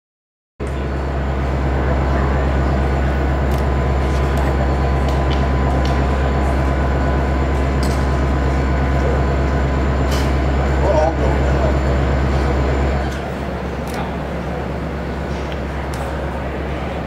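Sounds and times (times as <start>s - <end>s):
diesel locomotive idling: 0.6s - 17.0s.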